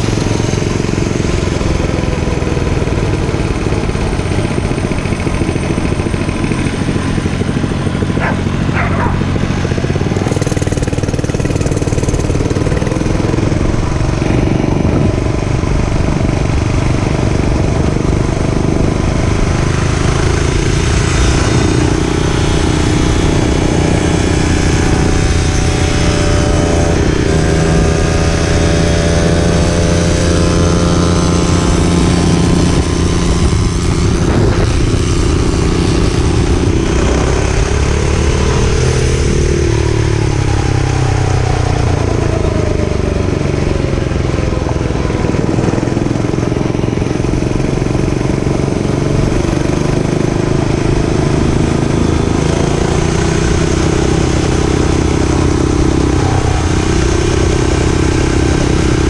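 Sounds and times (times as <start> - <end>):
dirt bike engine revving: 0.0 - 15.3, 15.9 - 40.6, 43.2 - 59.0.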